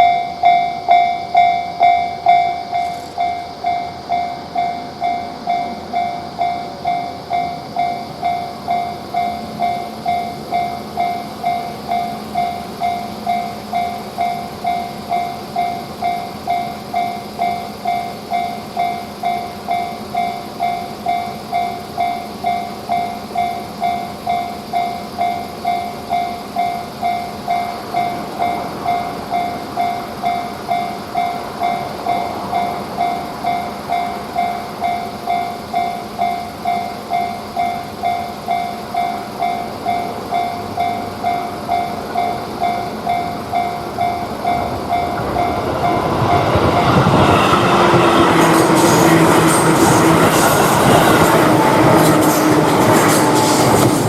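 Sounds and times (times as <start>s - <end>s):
level-crossing alarm bell ringing: 0.0s - 54.0s
passing train: 0.0s - 54.0s.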